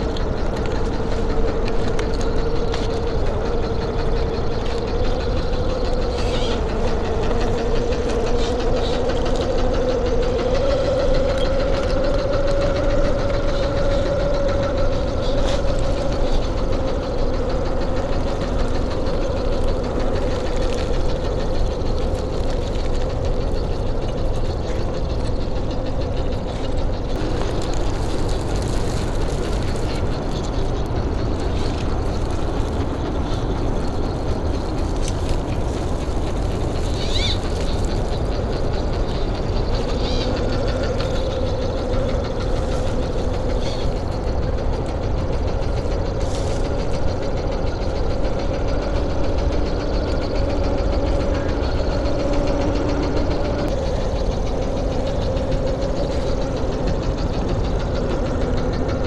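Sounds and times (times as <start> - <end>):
bird chirping: 0.0 - 59.0
electric motor and gear whine: 0.0 - 59.0
low rumble: 0.0 - 59.0.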